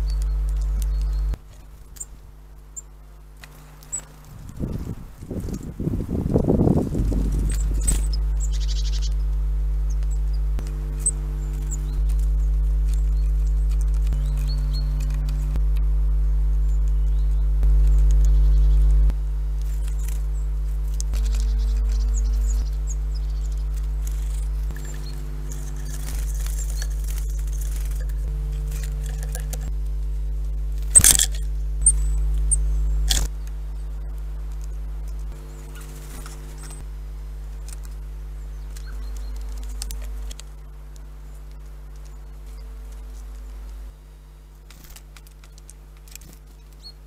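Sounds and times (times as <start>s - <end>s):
birds pecking at wooden feeder: 0.0s - 47.0s
steady low hum: 0.0s - 47.0s.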